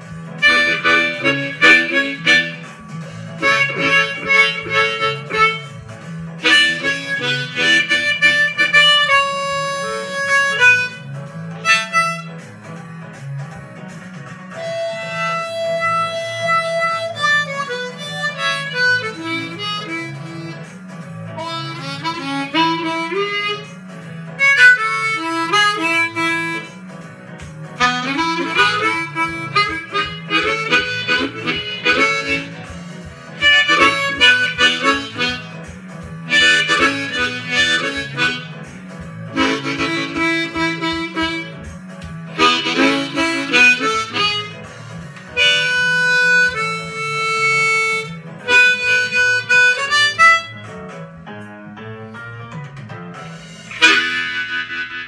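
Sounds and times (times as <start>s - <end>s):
regular low beat: 0.0s - 54.8s
low accompaniment: 0.0s - 55.0s
harmonica playing blues riff: 0.1s - 12.8s, 14.4s - 51.0s, 53.4s - 55.0s.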